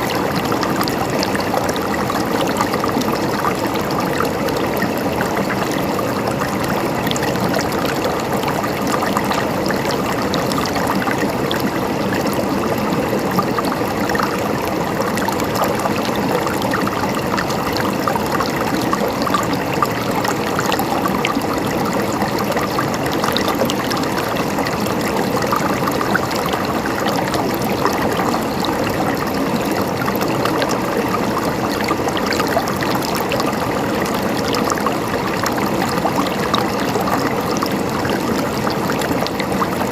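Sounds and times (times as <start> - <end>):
river water babbling over rocks: 0.0 - 39.9.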